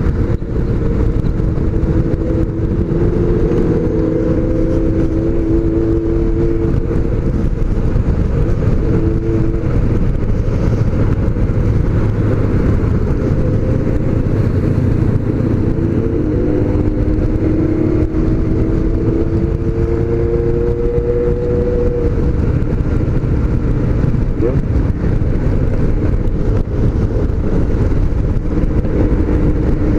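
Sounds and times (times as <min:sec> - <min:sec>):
motorcycle engines running: 0:00.0 - 0:29.9.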